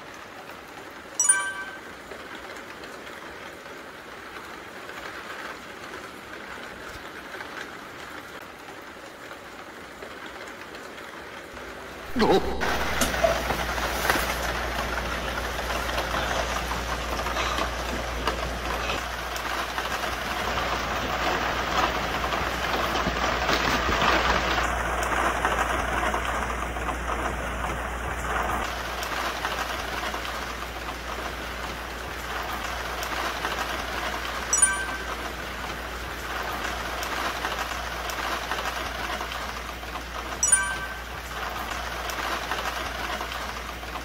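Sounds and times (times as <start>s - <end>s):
heavy rain on plastic sheeting: 0.0s - 1.2s, 1.9s - 44.0s.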